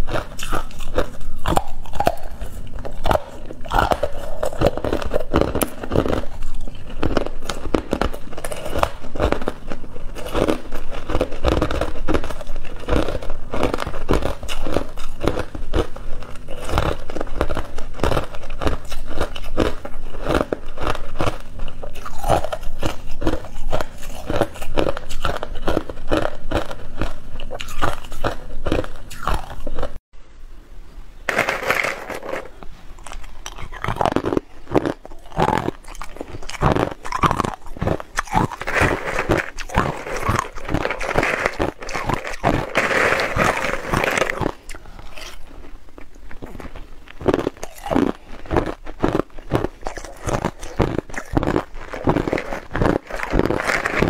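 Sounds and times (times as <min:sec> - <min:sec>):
ice cubes crunching: 0:00.0 - 0:29.9, 0:31.3 - 0:54.0.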